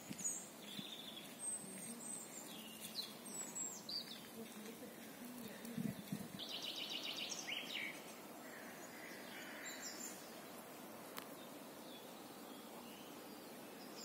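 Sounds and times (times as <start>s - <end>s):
birds calling: 0.0s - 14.0s
steady outdoor hiss: 0.0s - 14.0s.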